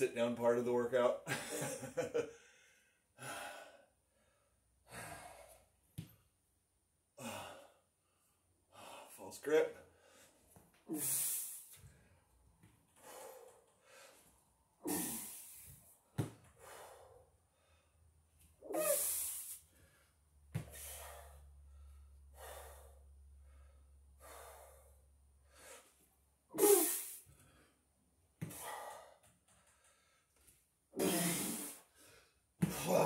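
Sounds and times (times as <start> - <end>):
man breathing heavily: 2.2 - 6.2, 7.1 - 9.2, 9.8 - 33.0.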